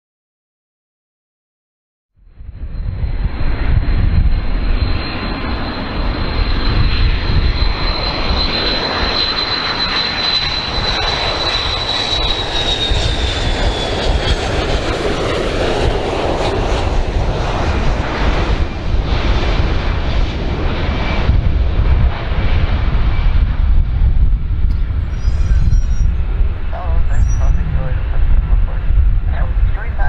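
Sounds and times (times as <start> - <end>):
jet rumble and whine: 2.2 - 30.0.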